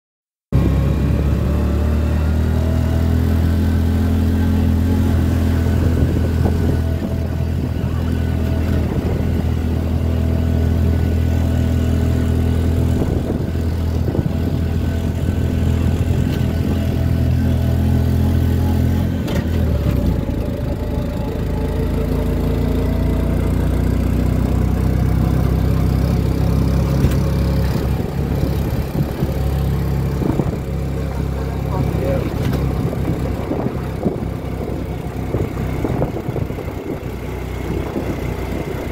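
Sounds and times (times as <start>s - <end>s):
small engine running: 0.6s - 38.9s.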